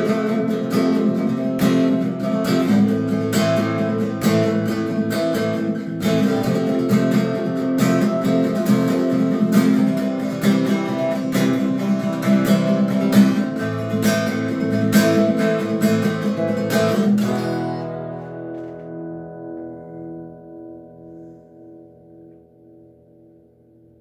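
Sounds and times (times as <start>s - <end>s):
guitar strumming chords: 0.0s - 24.0s.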